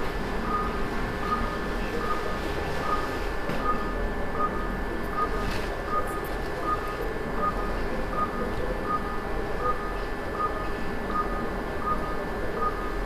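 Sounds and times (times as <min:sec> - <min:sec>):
steady low hum: 0:00.0 - 0:13.0
patient monitor beeping: 0:00.4 - 0:13.0.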